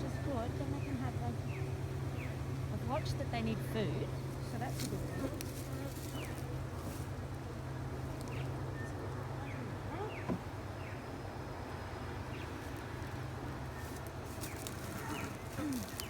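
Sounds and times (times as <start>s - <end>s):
birds chirping: 0.0s - 16.0s
honeybees buzzing: 0.0s - 16.0s.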